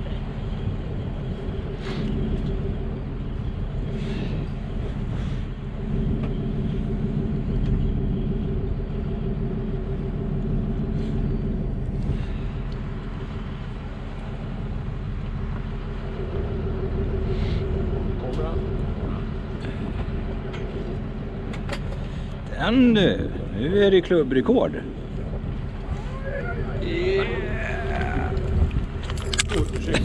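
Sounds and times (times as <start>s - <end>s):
boat engine rumbling: 0.0s - 30.0s
water noise: 0.0s - 30.0s
wind: 0.0s - 30.0s.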